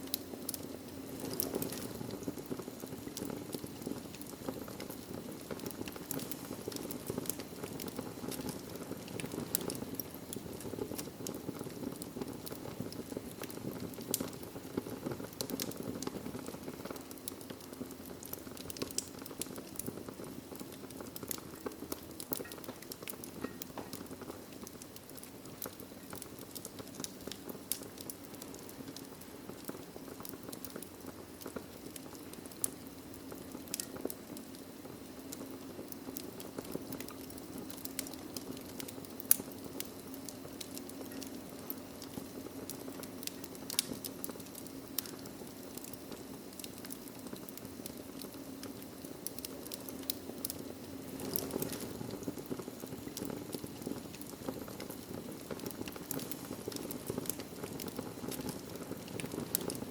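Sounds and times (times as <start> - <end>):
fire crackling: 0.0 - 59.9
fire pops and snaps: 0.0 - 59.9.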